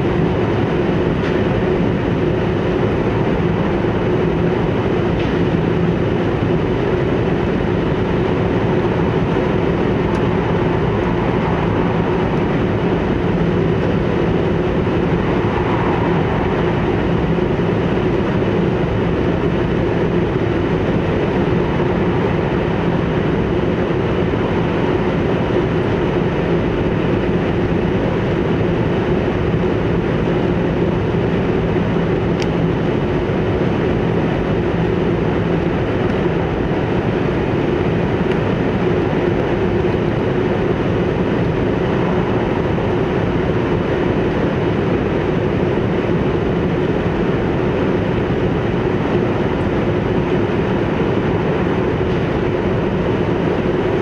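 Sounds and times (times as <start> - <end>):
steady hum: 0.0 - 54.0
train rumble inside passenger car: 0.0 - 54.0.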